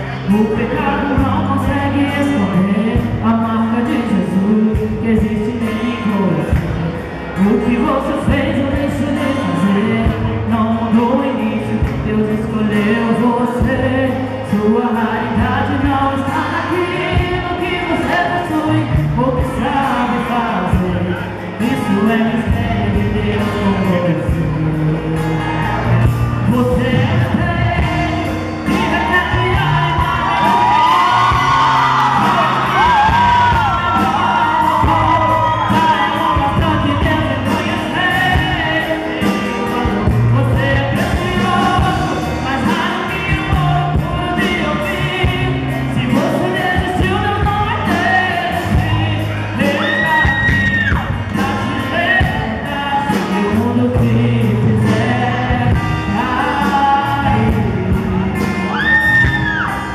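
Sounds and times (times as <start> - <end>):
woman singing into a microphone: 0.0 - 59.7
acoustic guitar: 0.0 - 59.9
bass line: 0.0 - 59.9
drums keeping a steady beat: 0.0 - 59.9
keyboard: 0.0 - 59.9.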